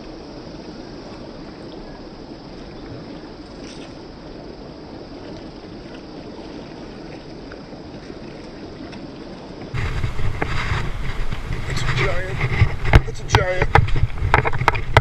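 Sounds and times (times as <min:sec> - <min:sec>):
flowing river water: 0:00.0 - 0:15.0
wind buffeting microphone: 0:00.0 - 0:15.0.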